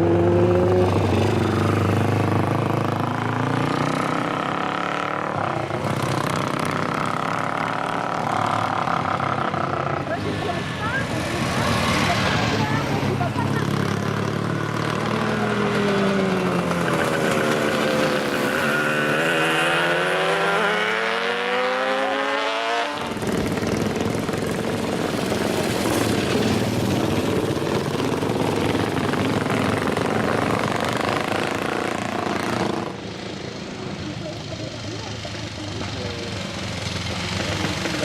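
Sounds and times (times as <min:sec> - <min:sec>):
motorcycle engines running: 0:00.0 - 0:38.0.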